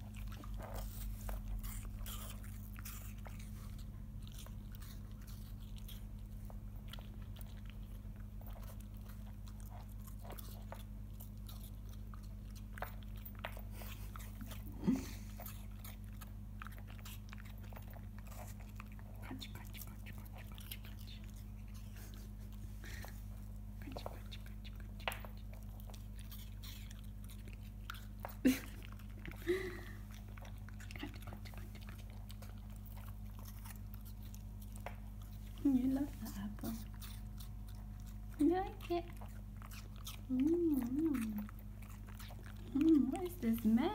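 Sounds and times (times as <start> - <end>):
puppy crunching apple: 0.0 - 43.9
steady low hum: 0.0 - 43.9.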